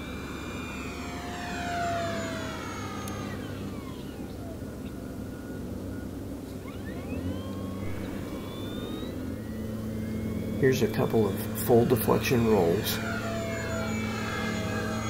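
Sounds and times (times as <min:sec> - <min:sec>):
model plane propeller whining: 0:00.0 - 0:15.0.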